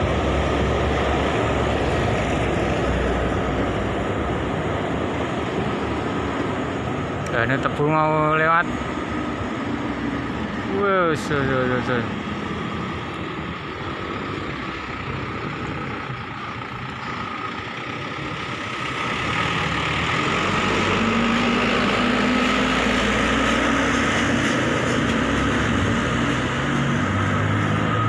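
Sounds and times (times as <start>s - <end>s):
traffic noise: 0.0s - 28.0s
truck passing over crossing: 0.0s - 28.0s.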